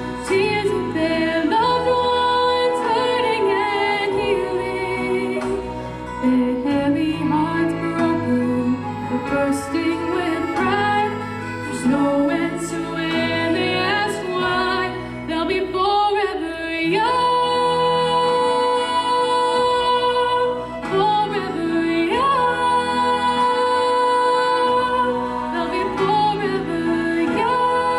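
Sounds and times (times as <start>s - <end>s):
instrumental accompaniment: 0.0s - 27.9s
woman singing: 0.0s - 27.9s.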